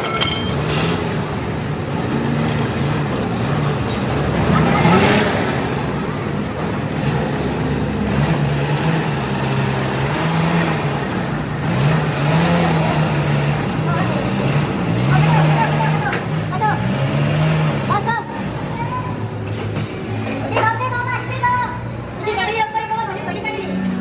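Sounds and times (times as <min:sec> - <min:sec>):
road traffic hum: 0:00.0 - 0:24.0.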